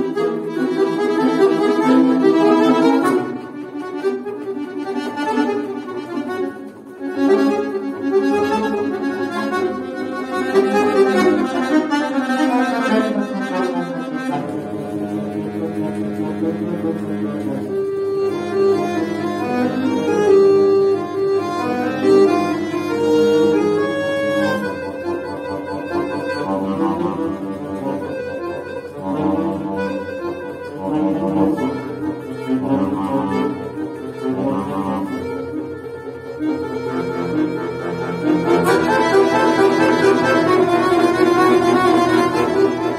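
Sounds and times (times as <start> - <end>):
button accordion playing: 0.0 - 42.9.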